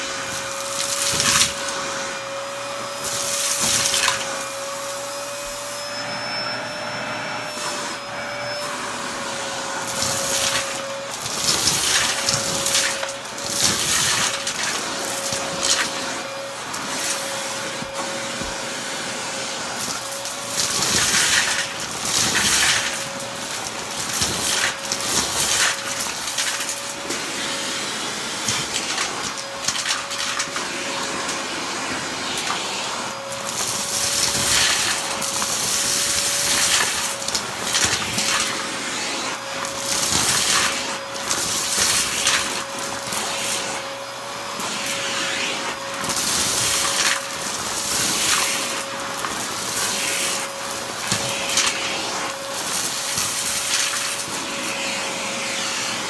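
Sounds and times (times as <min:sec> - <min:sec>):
handheld vacuum motor whine: 0:00.0 - 0:56.0.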